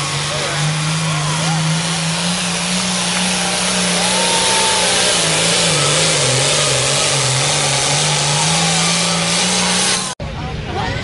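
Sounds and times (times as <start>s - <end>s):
tractor diesel engine under load: 0.0s - 10.6s.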